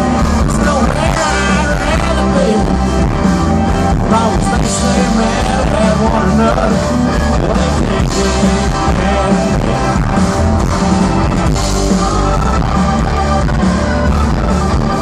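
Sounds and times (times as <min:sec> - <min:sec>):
bass: 0:00.0 - 0:15.0
drums: 0:00.0 - 0:15.0
electric guitars: 0:00.0 - 0:15.0
organ: 0:00.0 - 0:15.0.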